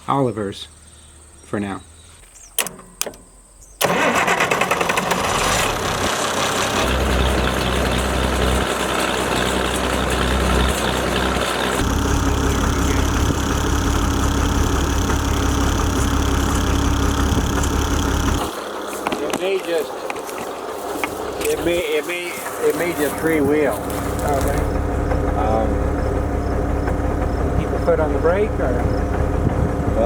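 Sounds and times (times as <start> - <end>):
tractor engine starting and running: 2.6 - 30.0.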